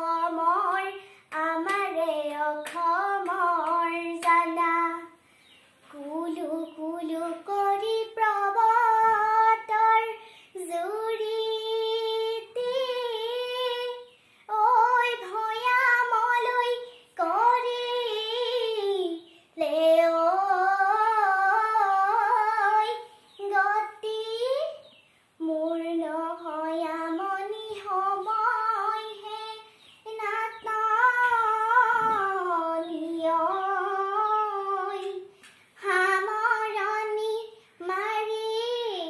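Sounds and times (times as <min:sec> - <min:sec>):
girl singing unaccompanied folk song: 0:00.0 - 0:39.0.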